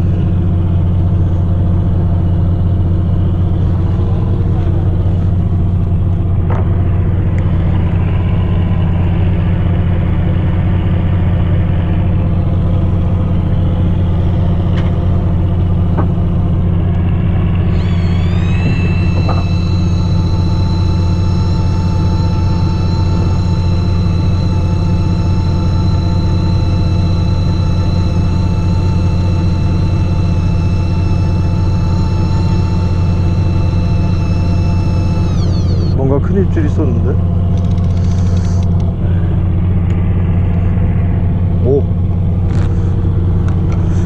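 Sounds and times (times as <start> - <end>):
boat engine drone: 0.0 - 44.0
high whine: 0.0 - 44.0.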